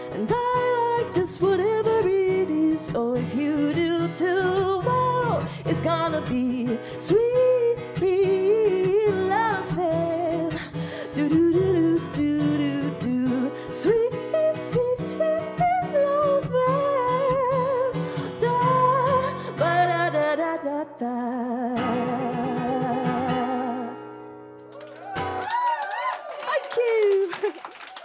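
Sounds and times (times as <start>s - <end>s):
strummed acoustic guitar: 0.0s - 20.6s, 21.8s - 25.4s
woman singing: 0.0s - 24.1s.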